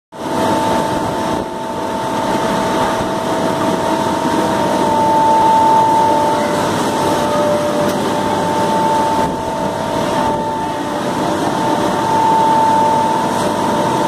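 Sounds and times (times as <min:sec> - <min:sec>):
conveyor belts whining: 0:00.2 - 0:14.0.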